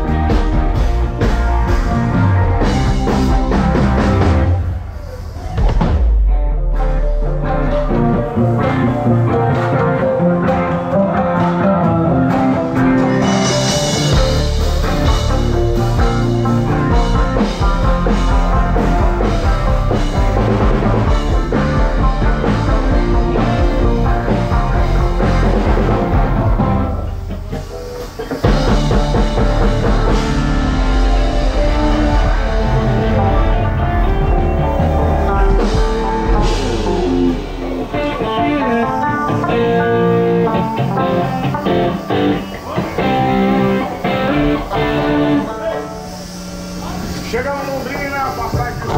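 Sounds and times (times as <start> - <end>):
rock band playing: 0.0 - 48.9.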